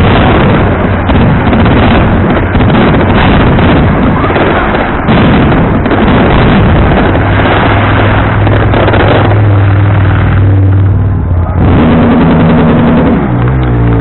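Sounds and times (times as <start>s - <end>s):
fireworks bangs and crackling: 0.0s - 14.0s
steady low hum: 0.0s - 14.0s.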